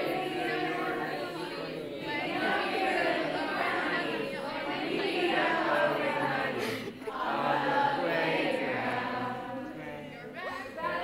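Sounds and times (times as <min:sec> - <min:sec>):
voices singing a prayer in unison: 0:00.0 - 0:11.0.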